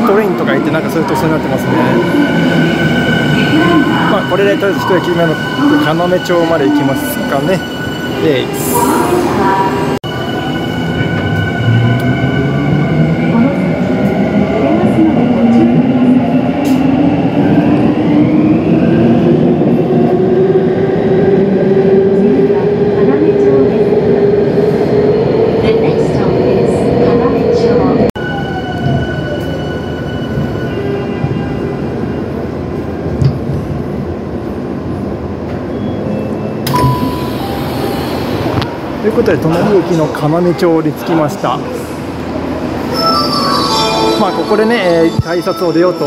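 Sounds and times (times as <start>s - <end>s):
subway train wheels rumbling: 0.0s - 46.0s.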